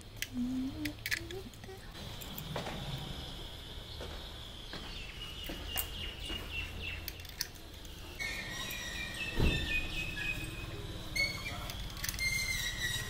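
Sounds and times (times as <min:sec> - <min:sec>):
birds singing: 0:00.6 - 0:13.0.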